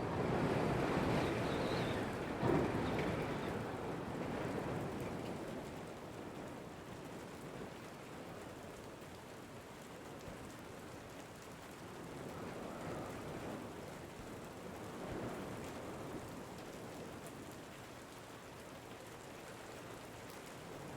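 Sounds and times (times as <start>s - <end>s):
rain falling: 0.0s - 20.9s
wind: 0.0s - 20.9s.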